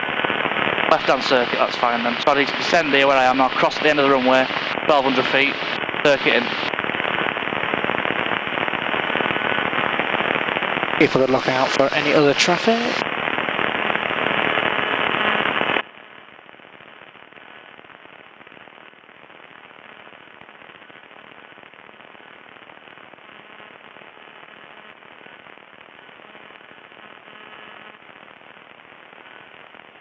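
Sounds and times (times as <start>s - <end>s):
radio static crackling: 0.0s - 30.0s.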